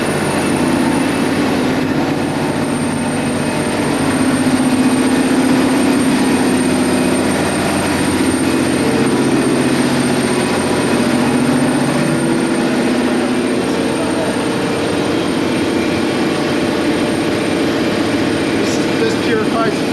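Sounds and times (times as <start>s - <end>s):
engine-room machinery drone: 0.0s - 19.9s.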